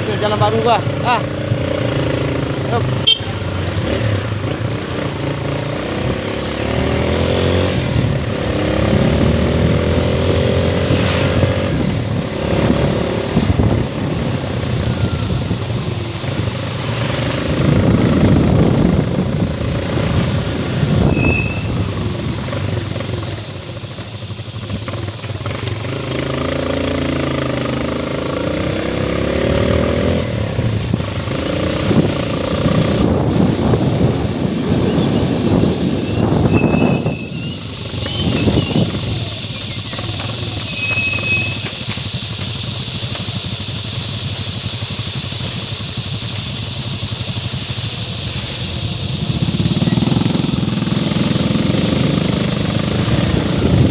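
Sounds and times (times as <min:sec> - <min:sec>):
vehicle engine revving: 0:00.0 - 0:53.9
wind and road noise: 0:00.0 - 0:53.9.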